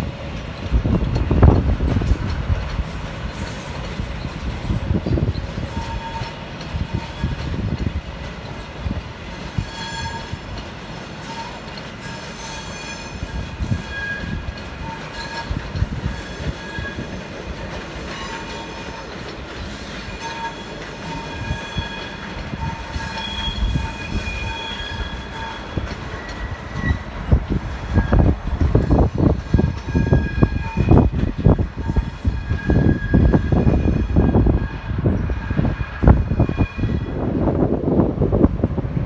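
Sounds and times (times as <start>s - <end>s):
train rolling rumble: 0.0s - 39.0s
train wheels squealing: 1.4s - 37.4s.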